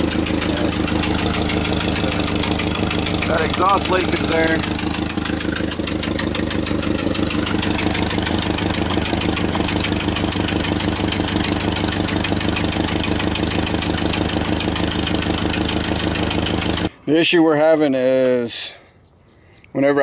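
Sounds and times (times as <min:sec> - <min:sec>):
tractor engine idling: 0:00.0 - 0:17.3.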